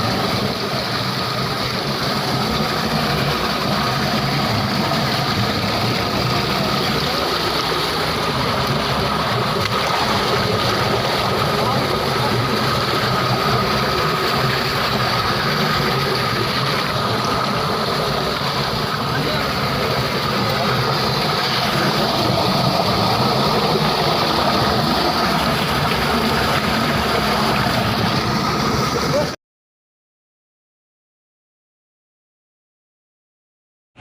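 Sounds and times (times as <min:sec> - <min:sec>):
running water rushing: 0:00.0 - 0:29.4.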